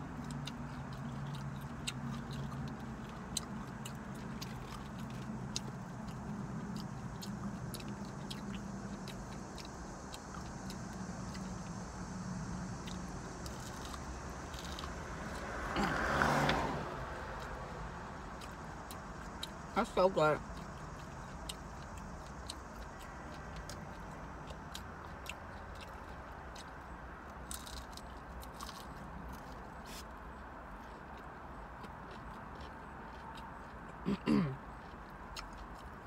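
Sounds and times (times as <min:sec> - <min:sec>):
car engine idling: 0:00.0 - 0:30.8.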